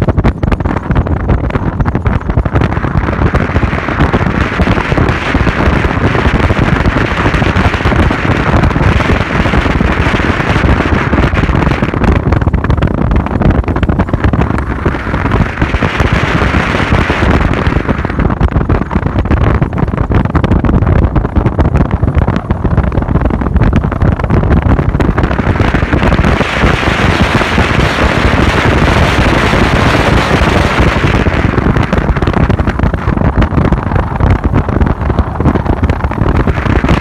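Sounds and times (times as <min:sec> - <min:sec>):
vehicle road noise: 0:00.0 - 0:37.0
wind buffeting on microphone: 0:00.0 - 0:37.0.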